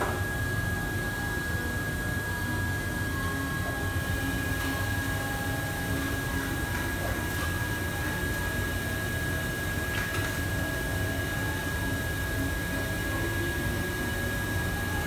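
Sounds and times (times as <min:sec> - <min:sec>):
kitchen extraction fans droning: 0:00.0 - 0:15.0.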